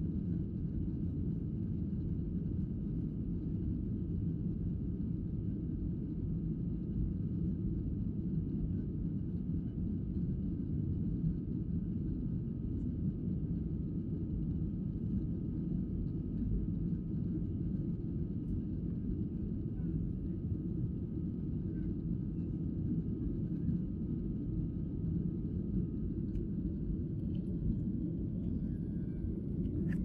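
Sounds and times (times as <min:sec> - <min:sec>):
jet engines and airflow rumble: 0:00.0 - 0:30.0.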